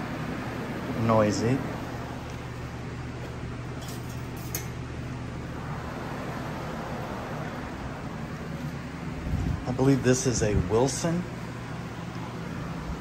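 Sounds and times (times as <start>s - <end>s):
electric fan whooshing: 0.0s - 13.0s.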